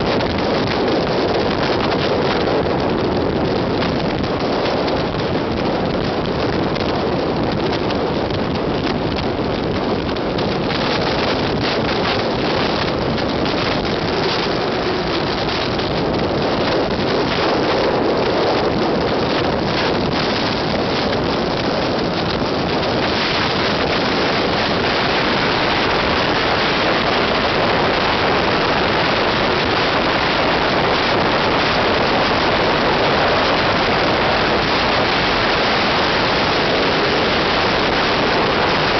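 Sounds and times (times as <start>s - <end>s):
car tyre and wind noise: 0.0s - 38.9s.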